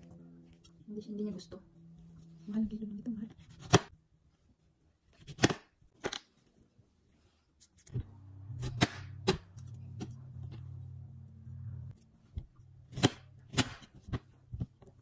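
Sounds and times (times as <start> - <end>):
low steady hum: 0.0 - 5.2, 6.4 - 15.0.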